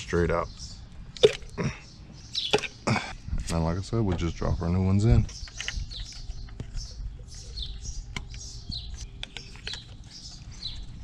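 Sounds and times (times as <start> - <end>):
high falling bird chirps: 0.0 - 2.9, 4.2 - 11.0.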